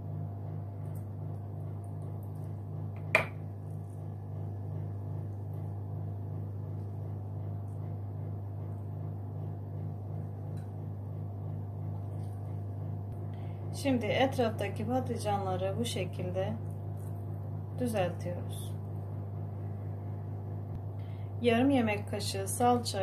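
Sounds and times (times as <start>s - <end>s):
pulsing low hum: 0.0s - 21.4s.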